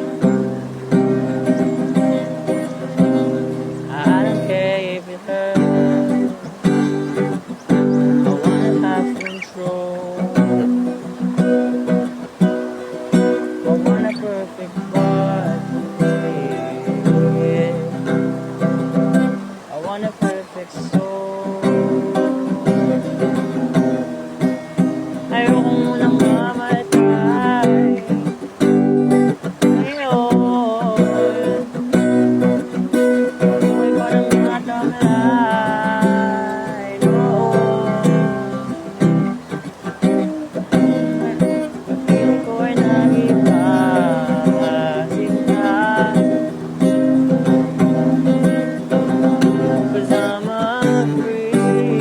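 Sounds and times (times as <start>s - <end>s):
acoustic guitar strumming: 0.0s - 52.0s
person singing wordless melody: 0.0s - 52.0s.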